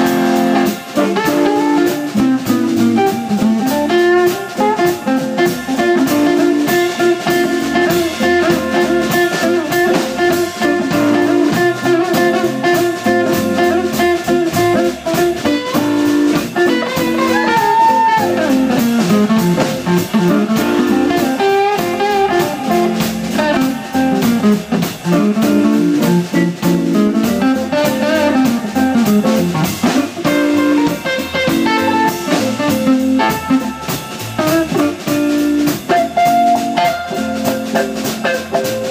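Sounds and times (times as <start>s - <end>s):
blues band playing: 0.0s - 38.9s.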